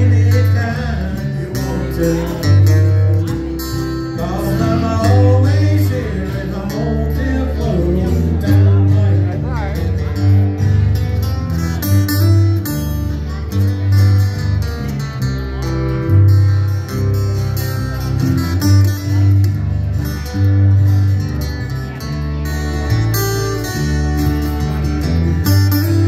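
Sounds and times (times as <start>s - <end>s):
bass line: 0.0s - 26.0s
electric guitar: 0.0s - 26.0s
live band playing: 0.0s - 26.0s.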